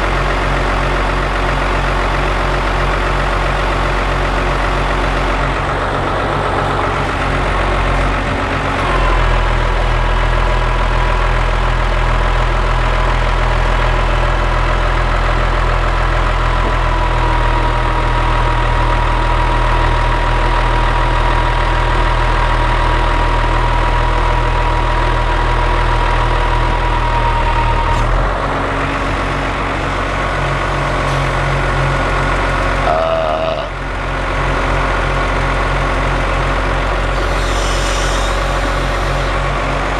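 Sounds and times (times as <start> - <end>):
crane engine running: 0.0 - 39.9.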